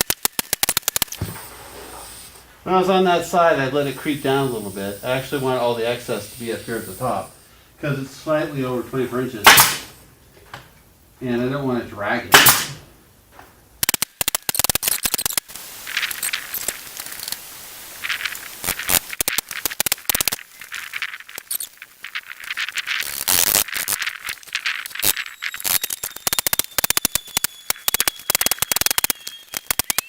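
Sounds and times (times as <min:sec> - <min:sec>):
bursts of hiss: 0:00.0 - 0:30.0.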